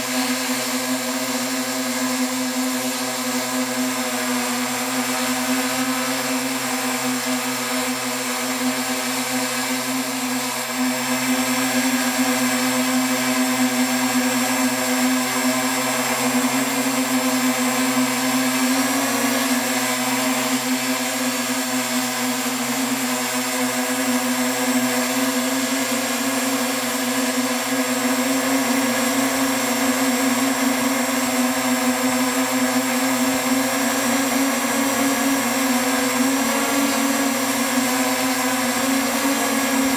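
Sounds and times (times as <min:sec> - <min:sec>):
drone propellers humming: 0:00.0 - 0:39.9.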